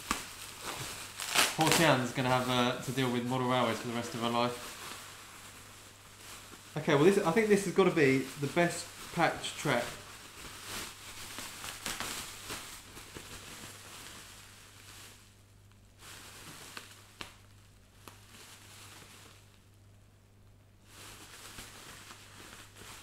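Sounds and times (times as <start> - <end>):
bubble wrap rustling and crinkling: 0.0 - 19.8, 20.8 - 23.0
faint steady hum: 0.0 - 23.0.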